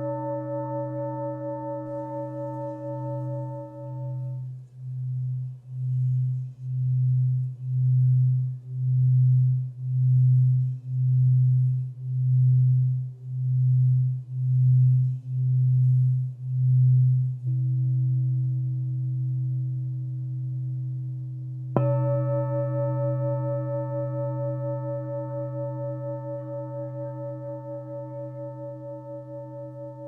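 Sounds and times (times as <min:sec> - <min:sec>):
singing bowl low tone: 0:00.0 - 0:30.0.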